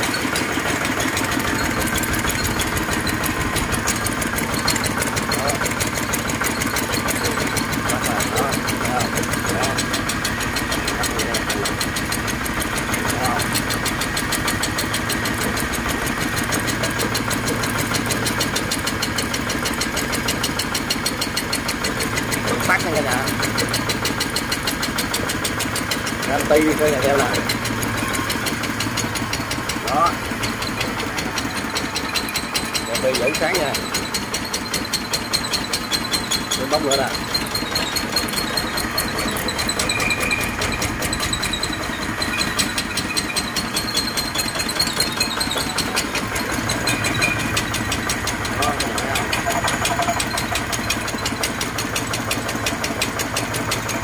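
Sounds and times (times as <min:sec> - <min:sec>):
single-cylinder engine running: 0:00.0 - 0:54.0.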